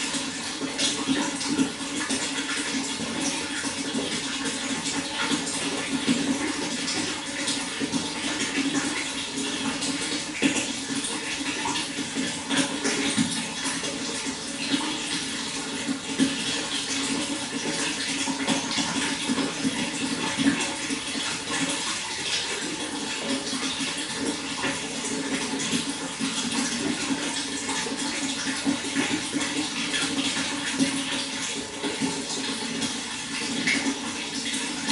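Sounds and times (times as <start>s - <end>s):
running water splashing: 0.0s - 34.9s.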